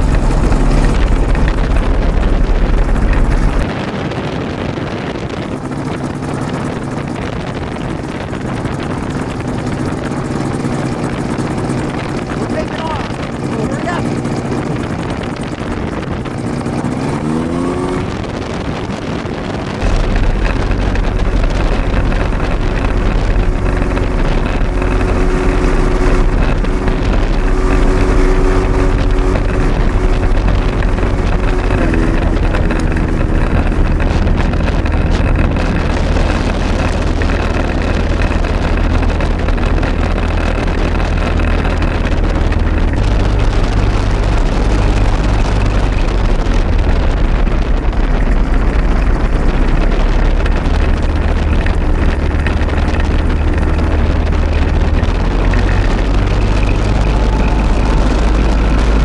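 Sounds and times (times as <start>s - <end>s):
two-stroke propeller engine running: 0.0s - 59.0s.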